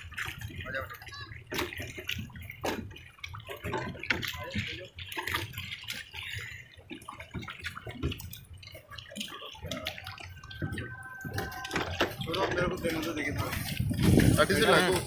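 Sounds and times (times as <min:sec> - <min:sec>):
water splashing from paddle wheels: 0:00.0 - 0:15.0.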